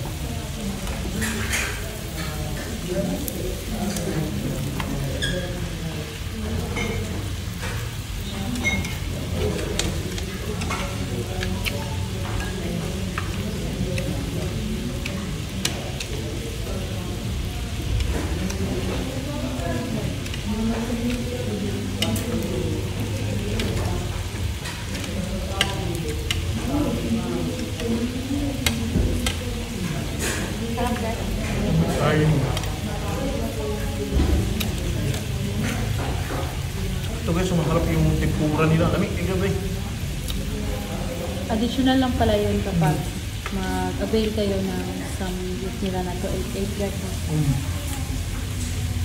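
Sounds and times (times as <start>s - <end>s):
meat sizzling on grill pan: 0.0s - 49.0s
utensils clicking against pan: 0.8s - 38.3s, 41.2s - 46.8s.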